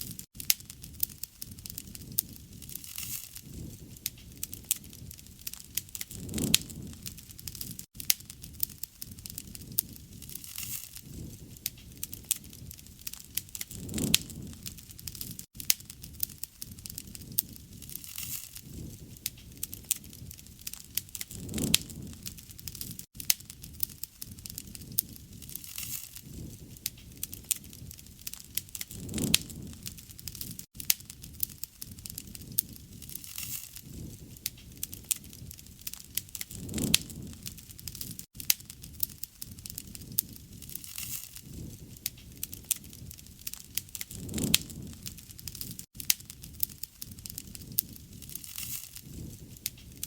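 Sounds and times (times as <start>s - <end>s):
low rustle of flame: 0.0s - 50.0s
wood fire crackling and popping: 0.0s - 50.0s.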